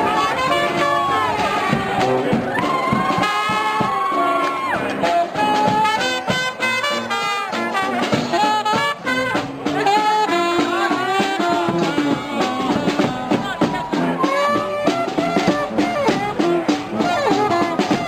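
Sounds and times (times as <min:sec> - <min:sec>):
brass band music: 0:00.0 - 0:18.0.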